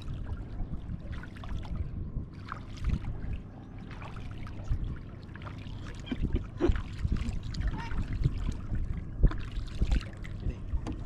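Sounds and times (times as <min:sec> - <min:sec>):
low rumble: 0:00.0 - 0:11.0
paddle dipping through water: 0:00.0 - 0:11.0
small splashes and dripping: 0:00.0 - 0:11.0.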